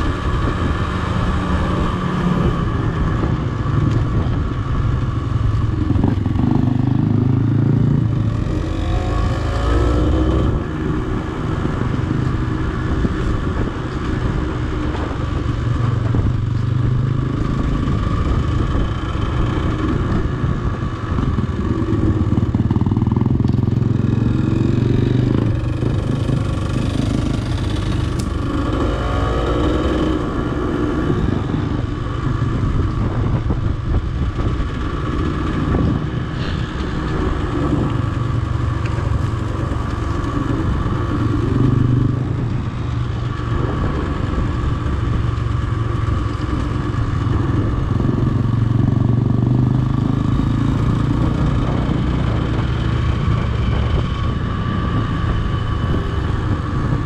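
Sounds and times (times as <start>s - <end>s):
dirt bike engine riding: 0.0s - 57.0s.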